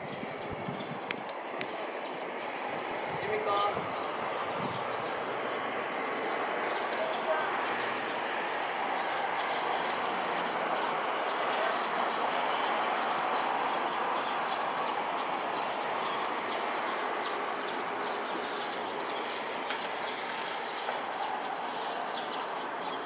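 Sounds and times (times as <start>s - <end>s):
distant jet engines roaring: 0.0s - 23.0s.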